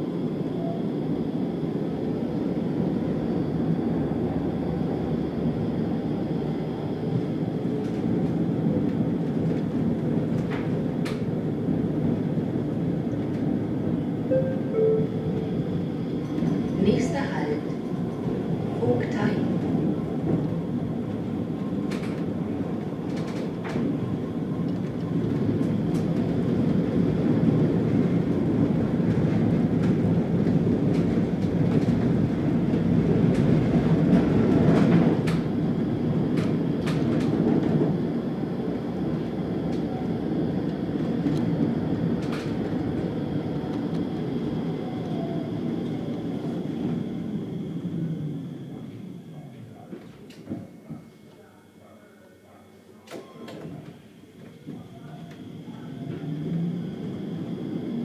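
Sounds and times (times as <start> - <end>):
tram wheels rumbling: 0.0 - 51.5, 53.5 - 58.0.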